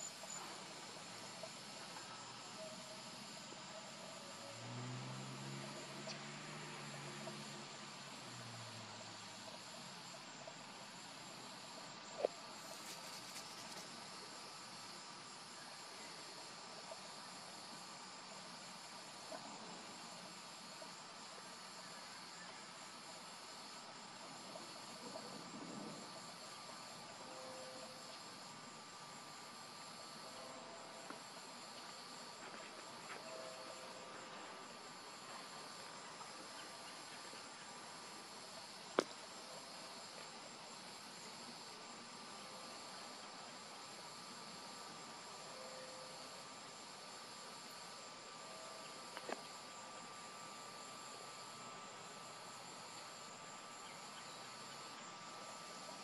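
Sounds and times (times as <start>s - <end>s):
insect chorus trilling: 0.0s - 56.0s.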